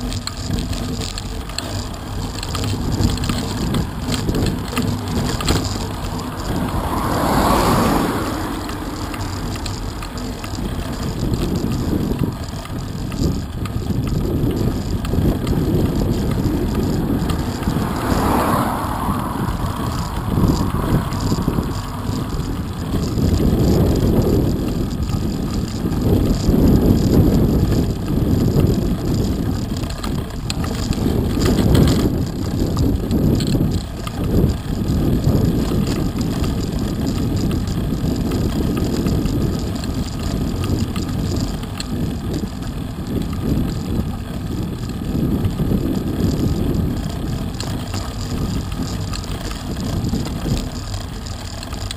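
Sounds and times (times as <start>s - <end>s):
bike tyres on coarse tarmac: 0.0s - 51.9s
wind buffeting microphone: 0.0s - 51.9s.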